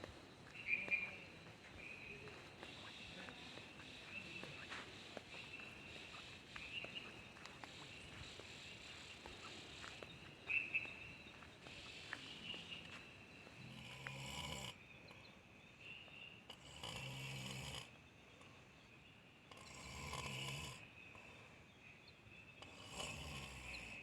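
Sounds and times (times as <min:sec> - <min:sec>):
insects chirring: 0:00.0 - 0:15.2, 0:15.8 - 0:17.9, 0:19.5 - 0:21.4, 0:22.5 - 0:24.0
chirp: 0:00.0 - 0:24.0.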